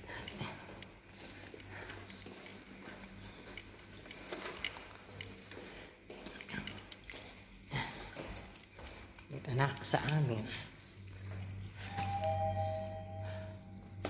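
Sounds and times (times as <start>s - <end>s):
keys jingling and clicking: 0.0s - 14.0s.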